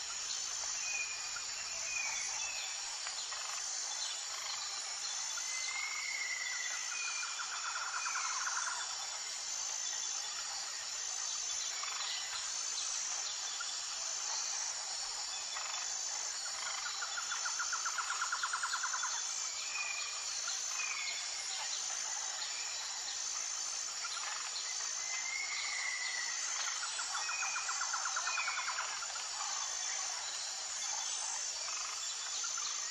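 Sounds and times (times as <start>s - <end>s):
insect drone: 0.0s - 32.9s.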